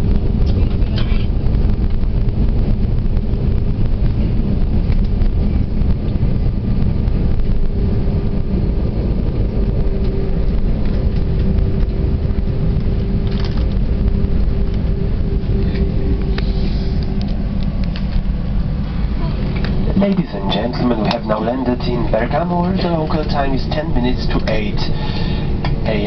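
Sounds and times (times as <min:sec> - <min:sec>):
aircraft cabin low rumble: 0:00.0 - 0:26.0
steady hum: 0:00.0 - 0:26.0.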